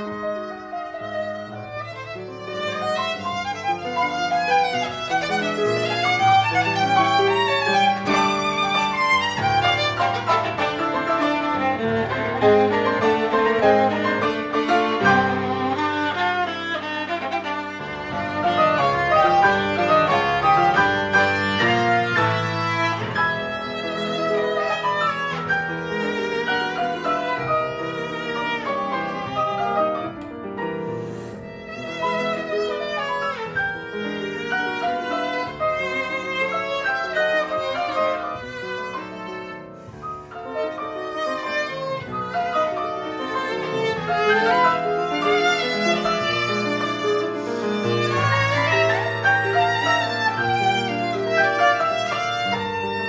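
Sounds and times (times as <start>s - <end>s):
piano accompaniment: 0.0s - 53.0s
viola played with bow: 0.0s - 53.0s.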